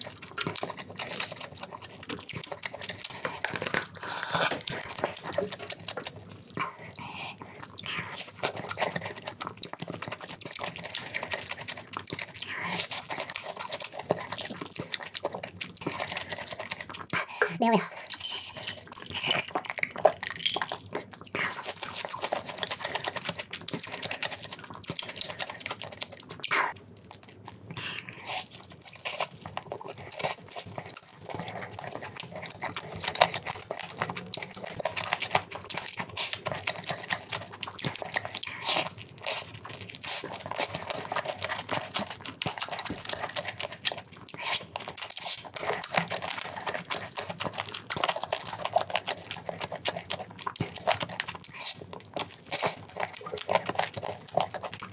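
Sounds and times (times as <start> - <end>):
crunchy bites and chewing: 0.0 - 17.2, 18.0 - 54.9.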